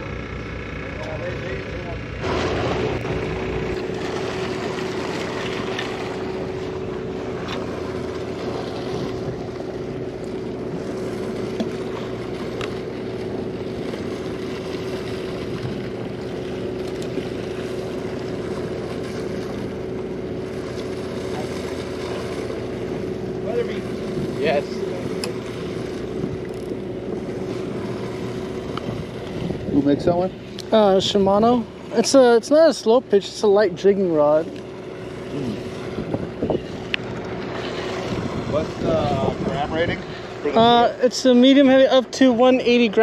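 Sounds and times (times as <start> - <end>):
boat engines droning: 0.0 - 43.0
water rushing: 2.2 - 43.0.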